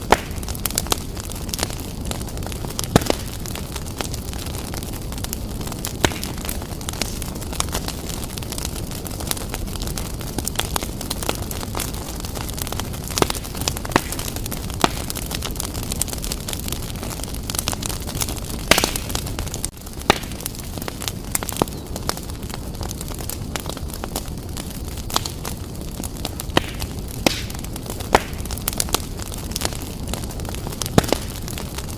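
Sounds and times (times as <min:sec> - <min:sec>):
wood fire crackling and rumbling: 0:00.0 - 0:31.9.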